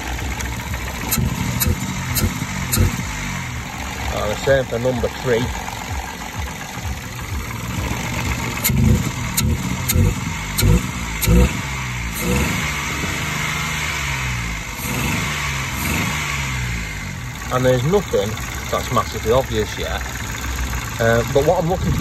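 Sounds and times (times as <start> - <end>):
engine idling unevenly: 0.0 - 22.0.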